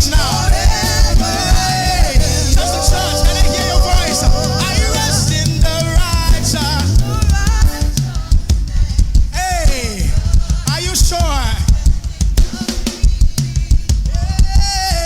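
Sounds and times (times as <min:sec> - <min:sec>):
drum kit beat: 0:00.0 - 0:15.0
worship band music: 0:00.0 - 0:15.0.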